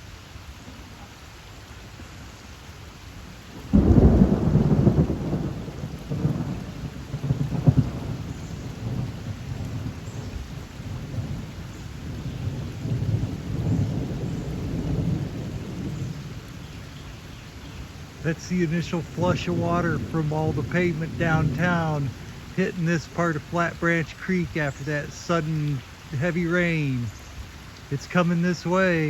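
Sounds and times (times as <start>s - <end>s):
rushing floodwater in creek: 0.0s - 29.0s.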